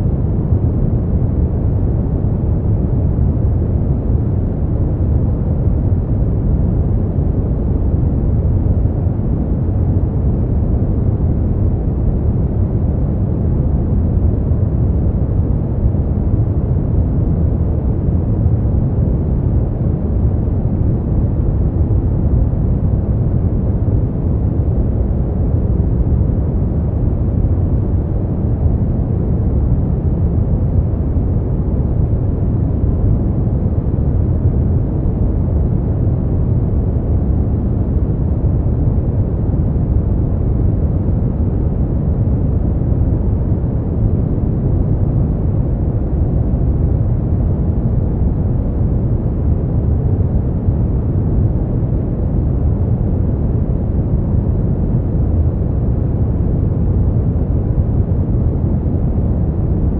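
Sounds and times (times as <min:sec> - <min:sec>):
deep rumbling brown noise: 0:00.0 - 0:59.9.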